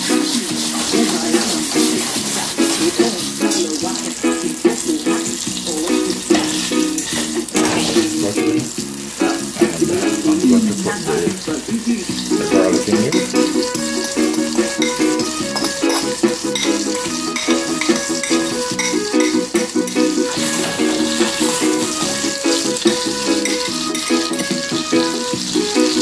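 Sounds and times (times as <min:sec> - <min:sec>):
background music: 0:00.0 - 0:26.0
butter sizzling in saucepan: 0:00.0 - 0:26.0.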